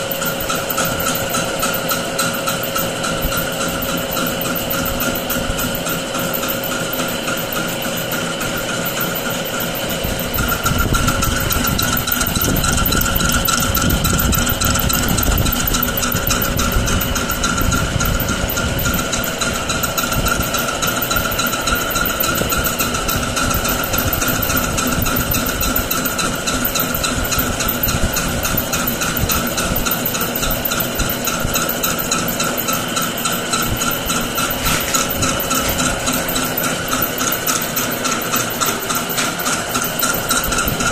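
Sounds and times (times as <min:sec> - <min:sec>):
lathe motor humming and whining: 0:00.0 - 0:40.9.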